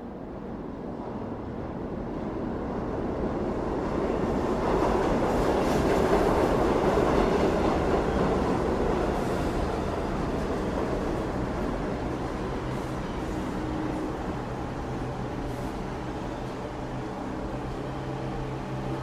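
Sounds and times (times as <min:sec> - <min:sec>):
subway train arriving: 0:00.0 - 0:19.0.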